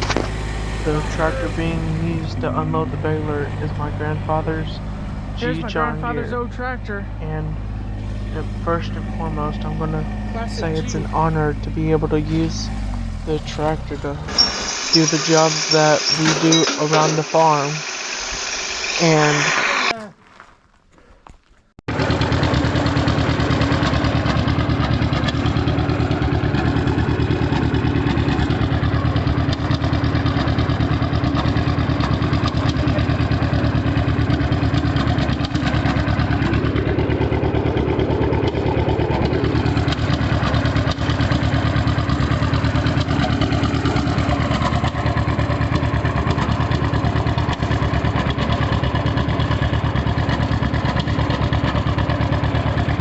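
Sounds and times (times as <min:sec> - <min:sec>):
two-cylinder tractor engine running: 0:00.0 - 0:19.9, 0:21.9 - 0:53.0.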